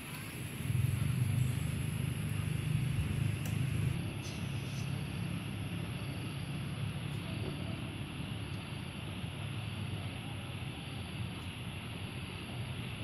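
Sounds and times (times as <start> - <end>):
low outdoor rumble: 0.0 - 13.0
thin high steady whine: 0.0 - 13.0.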